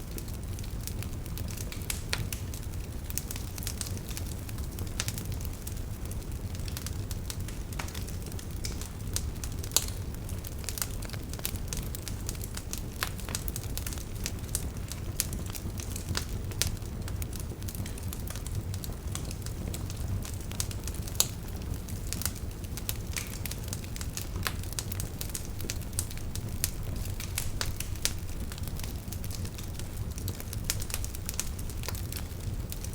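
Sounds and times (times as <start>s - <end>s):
fire crackling and popping: 0.0s - 32.9s
low rumble of flames: 0.0s - 32.9s.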